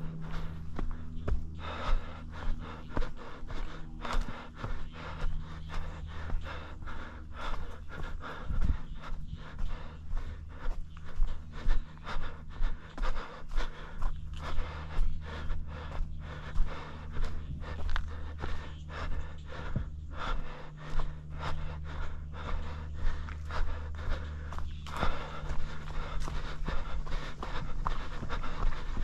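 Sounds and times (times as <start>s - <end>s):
person panting heavily: 0.0s - 29.0s.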